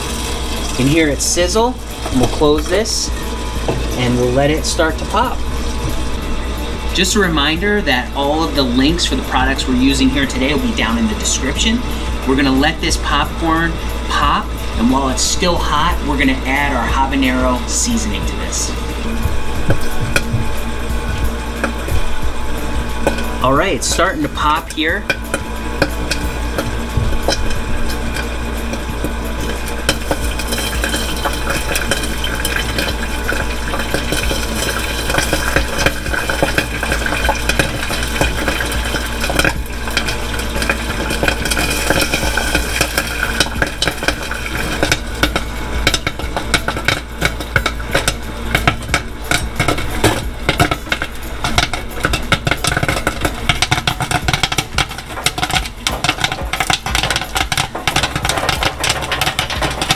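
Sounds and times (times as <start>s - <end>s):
oil sizzling: 0.0s - 59.9s
popcorn popping: 0.0s - 59.9s
stirring motor hum: 0.0s - 59.9s.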